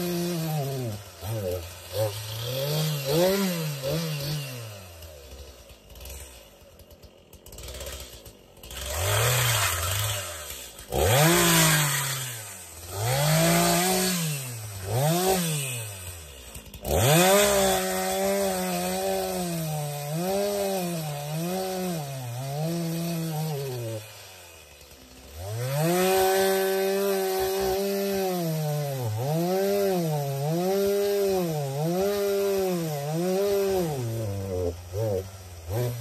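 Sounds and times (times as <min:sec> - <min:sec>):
chainsaw revving and cutting wood: 0:00.0 - 0:36.0.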